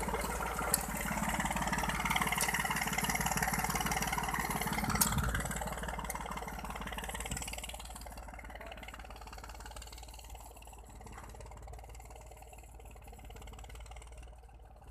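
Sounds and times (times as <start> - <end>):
tractor engine running: 0.0 - 14.9.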